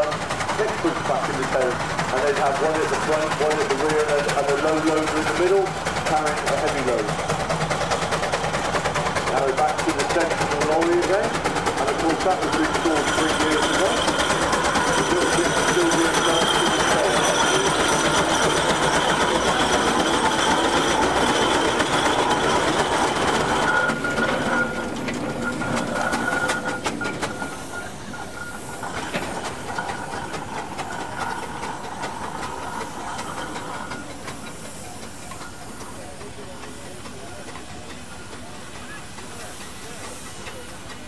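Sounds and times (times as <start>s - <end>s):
steam vehicle mechanical clatter: 0.0s - 41.0s.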